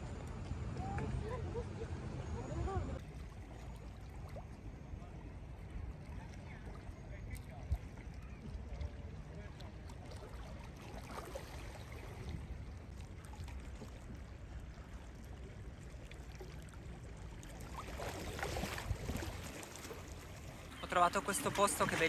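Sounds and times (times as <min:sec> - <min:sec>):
waves lapping against rocks: 0:03.0 - 0:22.0.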